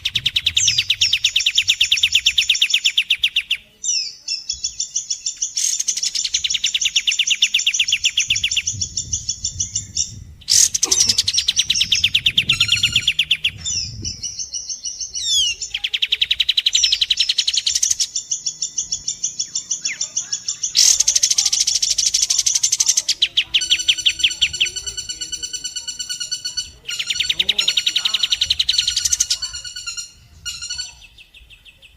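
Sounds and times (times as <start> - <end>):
fast rattling bird trills: 0.0 - 31.5
buzzy bird trill: 0.0 - 31.9.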